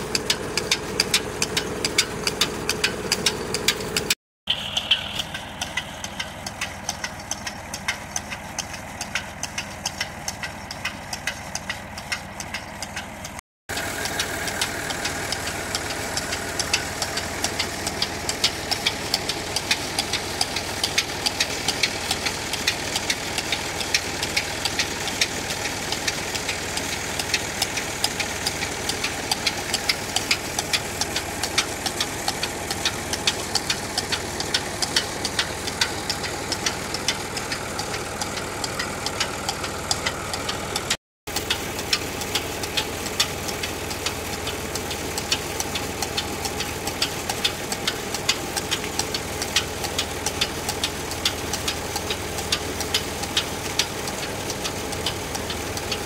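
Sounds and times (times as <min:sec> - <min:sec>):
tractor engine running under load: 0:00.0 - 0:56.0
patter of sharp ticks: 0:00.1 - 0:56.0.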